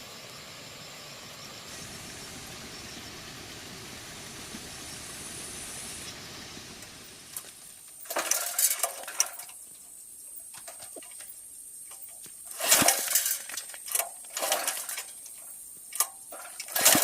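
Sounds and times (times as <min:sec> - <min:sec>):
steady hiss: 0:00.9 - 0:17.0.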